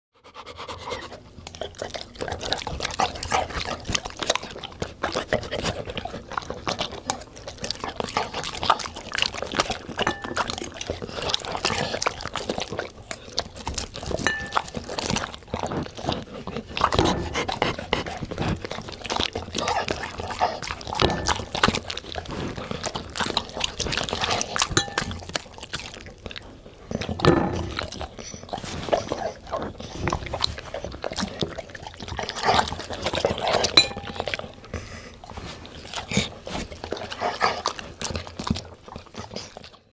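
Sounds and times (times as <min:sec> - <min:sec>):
dog crunching and chewing food: 0:00.2 - 0:39.9.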